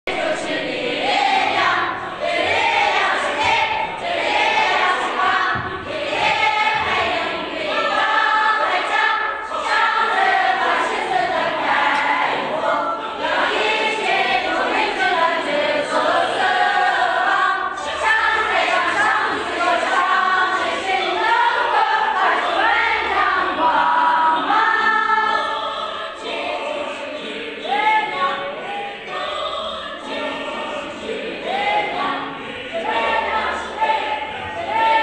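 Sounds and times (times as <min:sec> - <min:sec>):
group of voices singing: 0:00.0 - 0:35.0.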